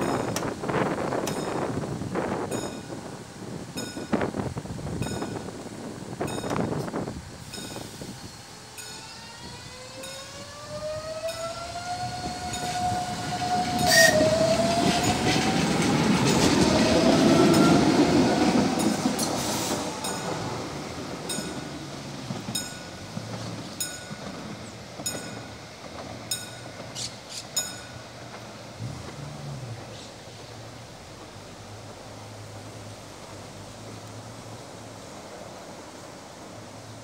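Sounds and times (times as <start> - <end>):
electric tram drive whining: 0.0 - 36.9
tram wheels rumbling on rails: 0.0 - 37.0.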